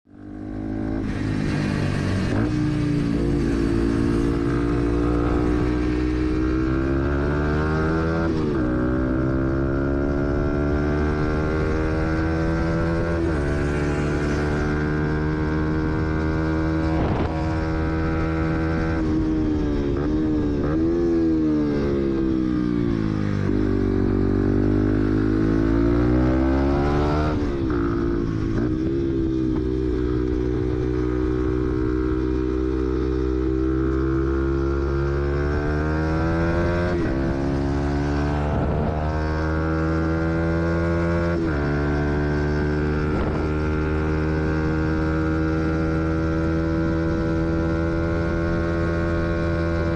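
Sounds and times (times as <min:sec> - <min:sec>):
motorcycle engine revving: 0:00.1 - 0:49.9.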